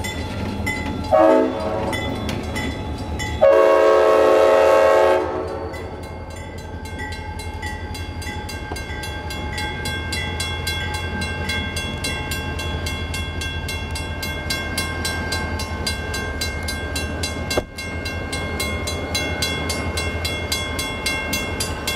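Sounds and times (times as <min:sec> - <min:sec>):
diesel locomotive rumbling: 0:00.0 - 0:21.9.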